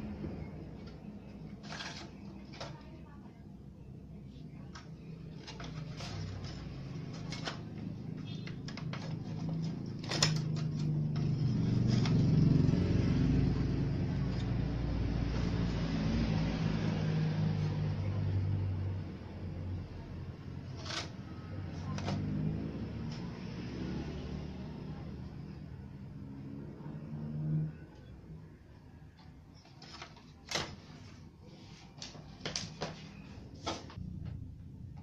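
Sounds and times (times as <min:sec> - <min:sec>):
vehicle engine hum: 0:00.0 - 0:30.2.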